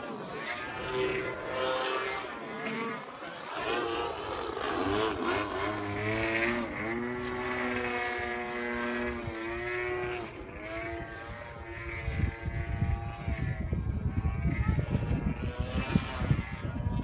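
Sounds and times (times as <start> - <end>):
model airplane engine in flight: 0.0 - 17.0.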